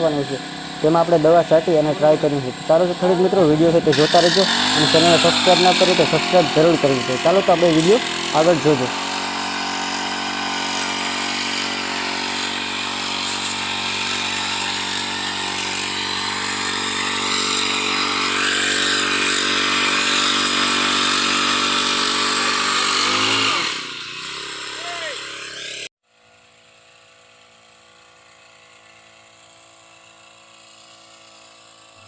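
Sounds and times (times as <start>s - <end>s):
small petrol engine running: 0.0s - 32.0s.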